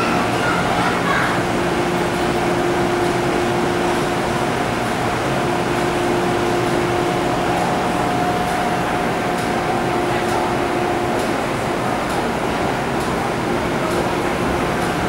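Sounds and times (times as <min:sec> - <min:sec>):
ventilation noise: 0:00.0 - 0:15.0.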